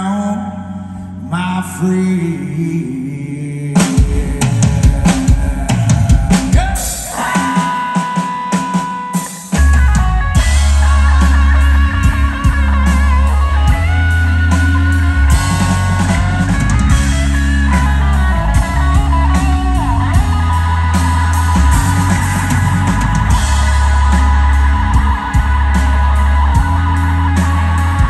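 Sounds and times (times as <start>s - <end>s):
electric bass: 0.0s - 7.2s, 9.6s - 28.0s
drum kit with cymbals: 3.8s - 28.0s
electric guitars: 3.8s - 28.0s.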